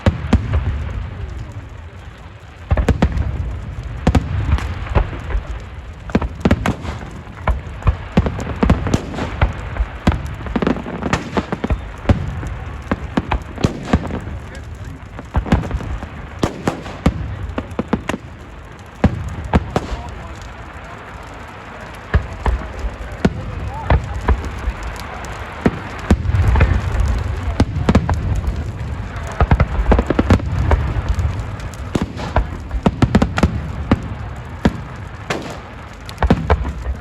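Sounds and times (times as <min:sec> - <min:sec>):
fireworks bangs and crackles: 0:00.0 - 0:37.0
people's voices: 0:00.0 - 0:37.0.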